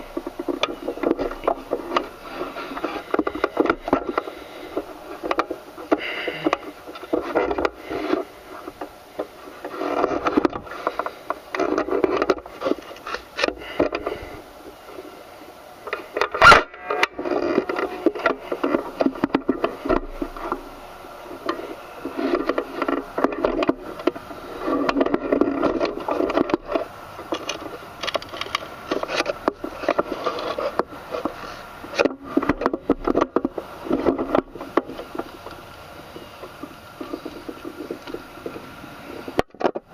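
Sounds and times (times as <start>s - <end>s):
handling noise scraping and knocking: 0.0s - 39.9s.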